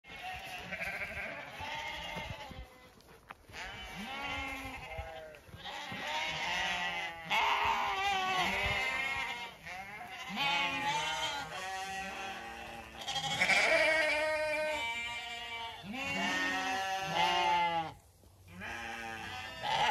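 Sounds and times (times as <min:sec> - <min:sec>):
sheep bleating: 0:00.1 - 0:19.9.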